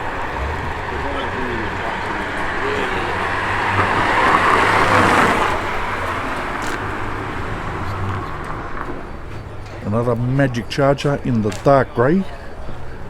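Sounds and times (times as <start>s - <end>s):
car driving past: 0.0s - 11.0s
low engine rumble: 0.0s - 13.0s.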